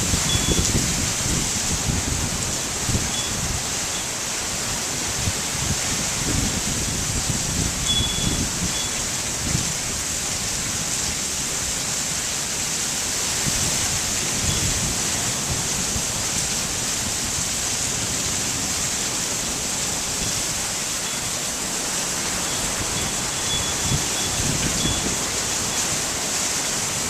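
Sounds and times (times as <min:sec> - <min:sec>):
wind buffeting microphone: 0:00.0 - 0:03.9, 0:04.5 - 0:11.0, 0:13.3 - 0:26.3
heavy rain pouring: 0:00.0 - 0:27.0.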